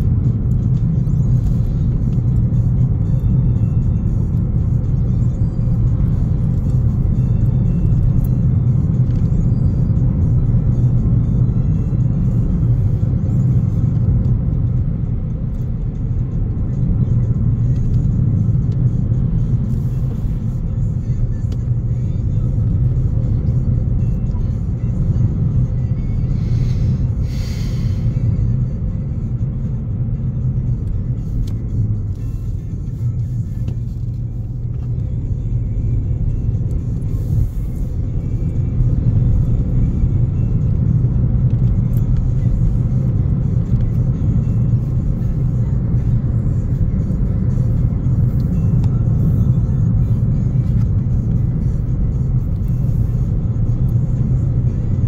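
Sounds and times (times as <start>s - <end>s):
car interior road noise: 0.0s - 55.0s.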